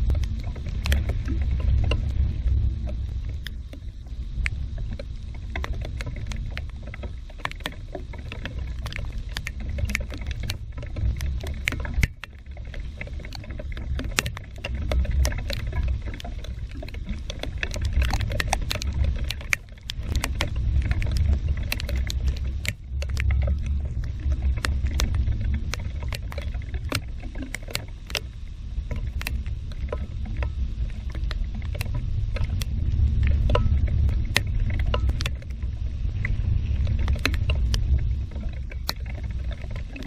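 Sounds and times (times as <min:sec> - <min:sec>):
rain tapping on window glass: 0:00.0 - 0:28.3, 0:28.9 - 0:40.0.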